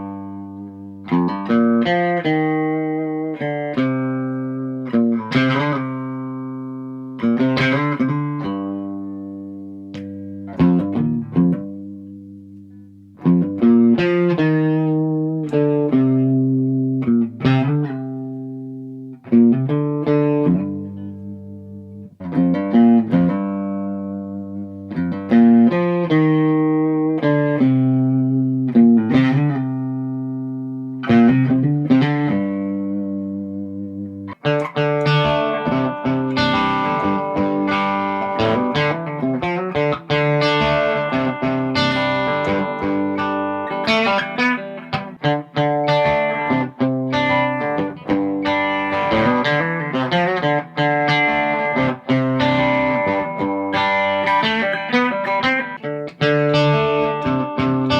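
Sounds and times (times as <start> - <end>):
electric guitar playing: 0.0 - 57.9.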